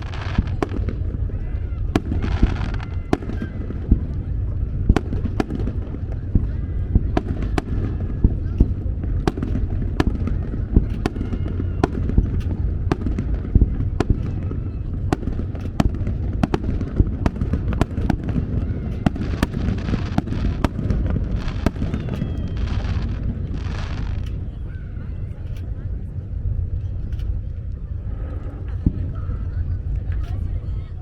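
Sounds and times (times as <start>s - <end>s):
fireworks bangs: 0.0s - 25.9s
low rumble of shell blasts: 0.0s - 30.6s.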